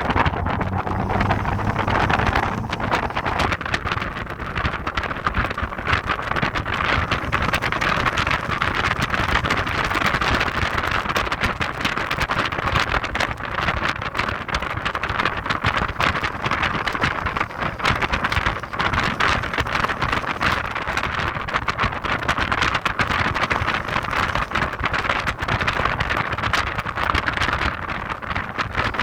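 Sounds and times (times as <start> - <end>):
car driving noise: 0.0 - 29.0
wind buffeting on microphone: 0.0 - 29.0.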